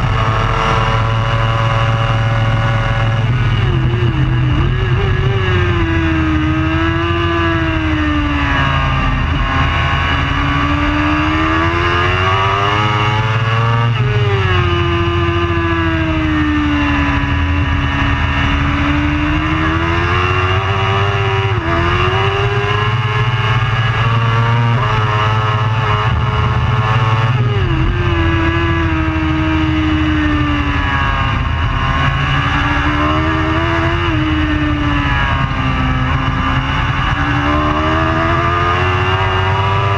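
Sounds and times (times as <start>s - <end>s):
superbike engine running hard: 0.0s - 39.9s.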